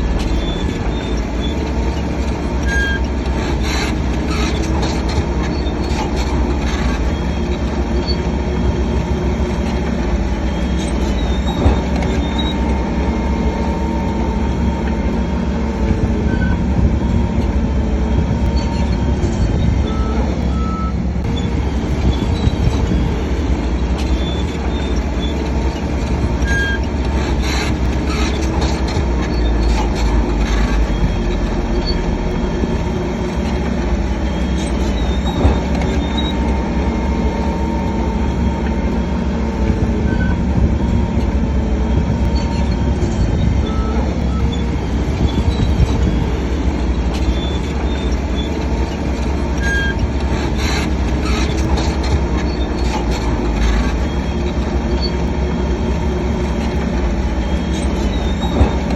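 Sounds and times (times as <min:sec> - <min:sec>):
bulldozer diesel engine: 0:00.0 - 0:58.9
steel tracks squeaking and clanking: 0:00.0 - 0:58.9.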